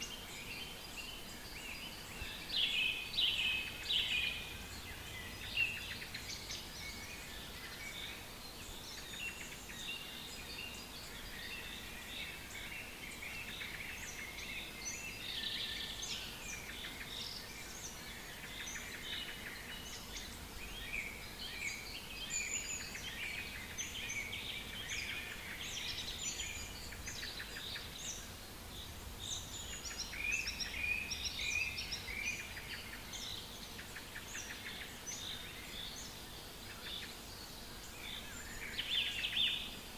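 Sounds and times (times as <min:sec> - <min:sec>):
faint background noise: 0:00.0 - 0:39.9
songbirds chorus: 0:00.0 - 0:39.9.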